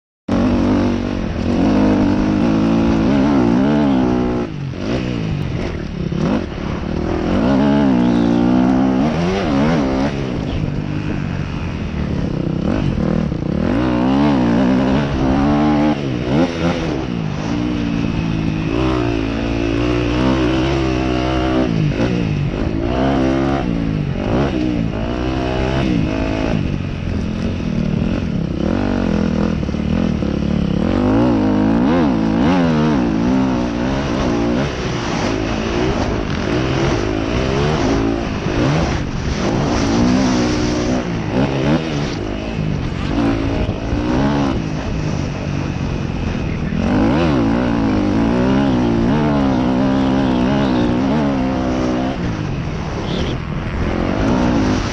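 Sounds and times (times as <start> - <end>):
dirt bike engine revving: 0.3 - 54.9.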